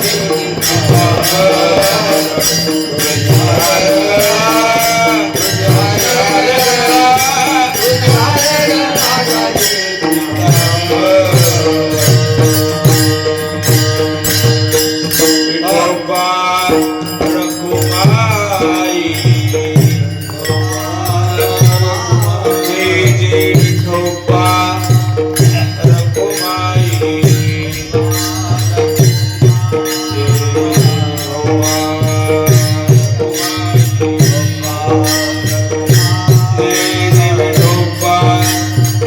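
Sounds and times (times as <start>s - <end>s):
man singing devotional song: 0.0s - 39.0s.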